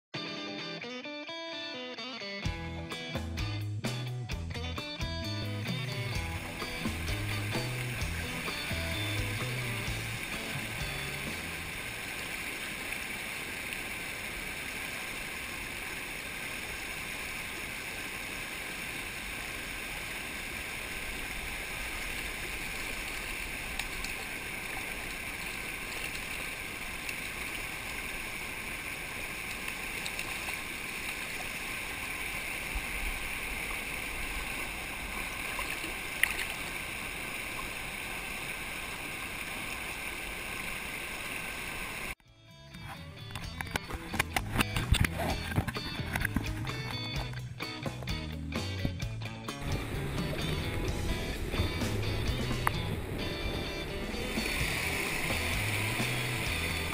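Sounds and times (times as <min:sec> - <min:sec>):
creek water rushing: 0:05.2 - 0:42.2, 0:42.8 - 0:56.9.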